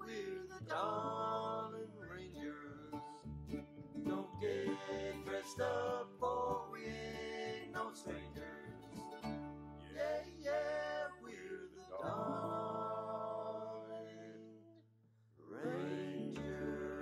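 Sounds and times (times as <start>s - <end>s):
person singing: 0.0s - 3.2s, 4.0s - 14.7s, 15.5s - 17.0s
guitar: 0.0s - 14.6s, 15.6s - 17.0s.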